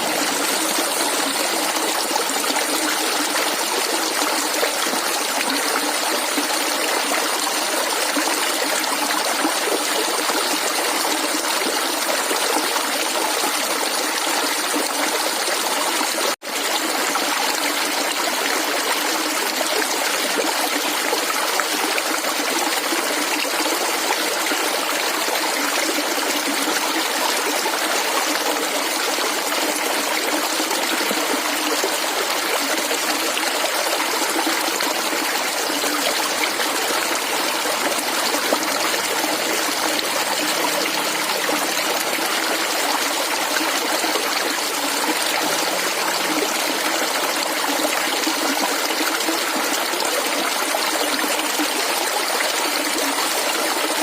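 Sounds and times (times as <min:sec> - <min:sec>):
water gurgling and trickling: 0:00.0 - 0:54.0.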